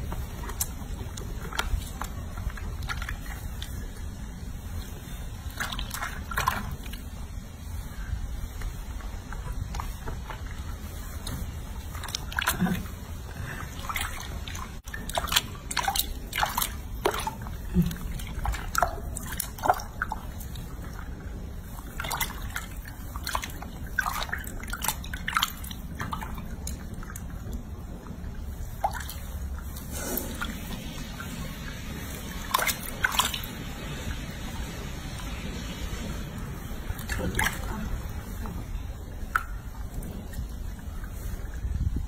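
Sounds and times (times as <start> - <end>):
water splashing and dripping: 0.0 - 42.0.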